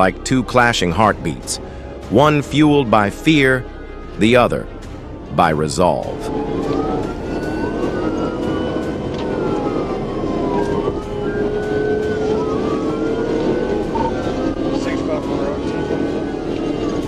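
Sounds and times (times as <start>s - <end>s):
police siren wailing: 0.0s - 17.0s
road noise: 0.0s - 17.0s
engine drone: 0.6s - 17.0s.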